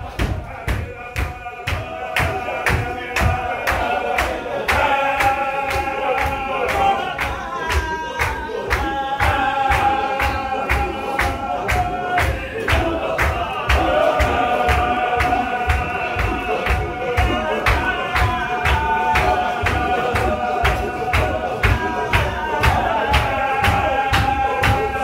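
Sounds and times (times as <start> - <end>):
men chanting in unison: 0.0 - 25.0
rhythmic hand clapping: 0.0 - 25.0.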